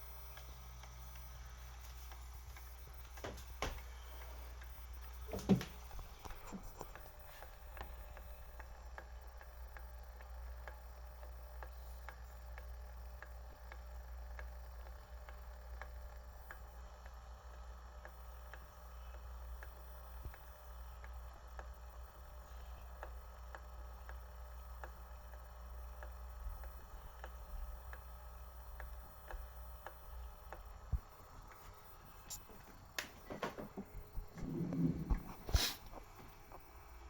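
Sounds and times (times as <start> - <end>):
aquarium heater clicking: 0.0 - 35.8
steady low hum: 0.0 - 37.0.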